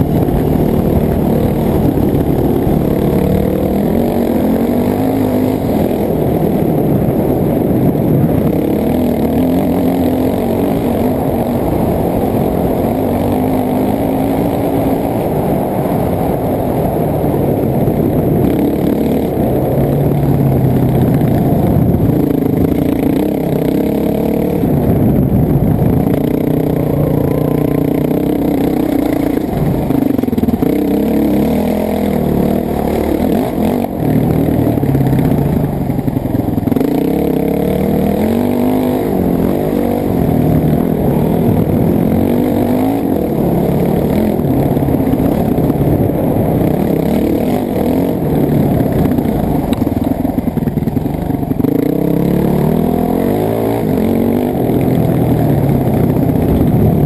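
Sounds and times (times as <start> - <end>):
dirt bike engine revving: 0.0 - 16.4, 18.0 - 57.0.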